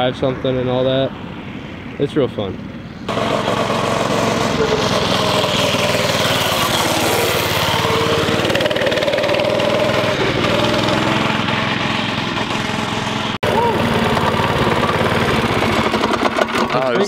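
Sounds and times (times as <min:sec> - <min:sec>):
go-kart engine running: 0:03.1 - 0:17.0.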